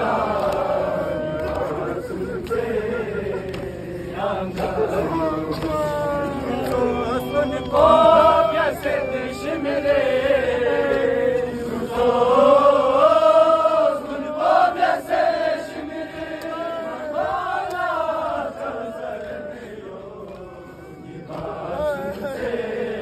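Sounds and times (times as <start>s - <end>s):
person chanting a mourning lament: 0.0s - 23.0s.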